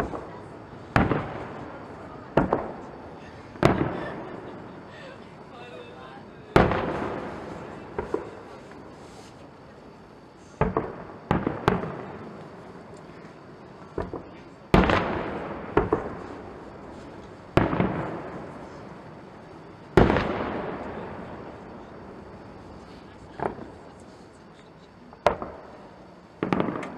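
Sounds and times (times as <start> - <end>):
fireworks bangs with echoing rumble: 0.0 - 24.4, 25.1 - 26.9
fireworks crackles: 0.0 - 26.9.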